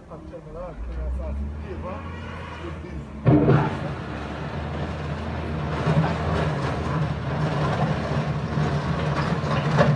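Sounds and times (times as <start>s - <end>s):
rumbling background noise: 0.0s - 9.9s.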